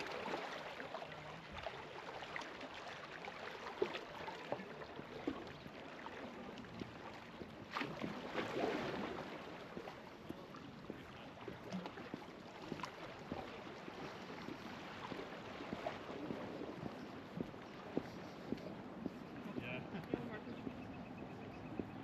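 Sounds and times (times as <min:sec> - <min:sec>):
small sea waves lapping: 0:00.0 - 0:22.0
small water splashes: 0:00.0 - 0:22.0.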